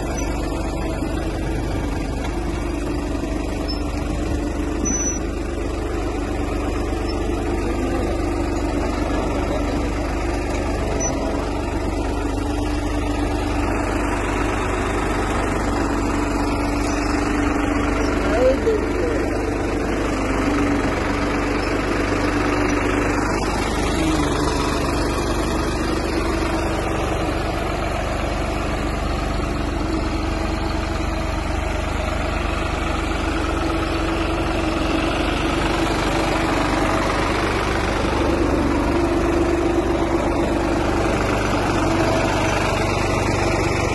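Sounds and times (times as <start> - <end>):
tractor diesel engine drone: 0.0 - 43.9.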